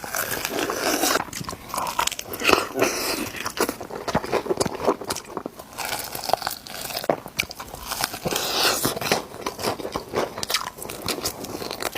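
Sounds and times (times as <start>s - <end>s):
chewing crunchy chicken: 0.0s - 11.9s.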